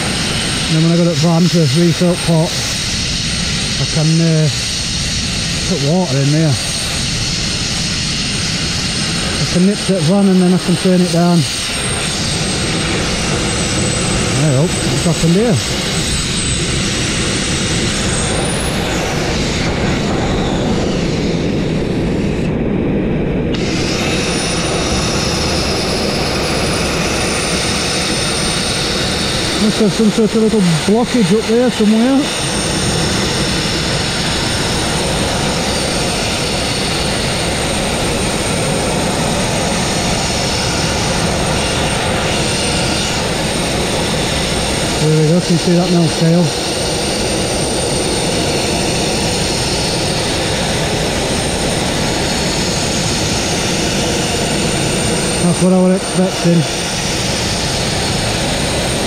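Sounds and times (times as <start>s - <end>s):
abrasive blasting nozzle hissing: 0.0s - 22.5s, 23.4s - 59.0s.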